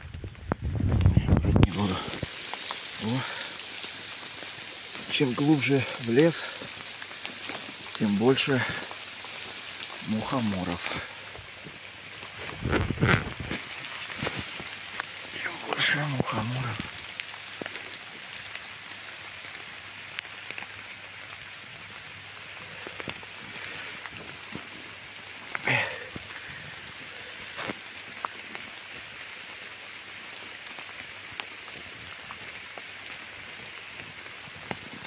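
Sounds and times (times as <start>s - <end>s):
light rain on leaves: 0.0s - 35.0s.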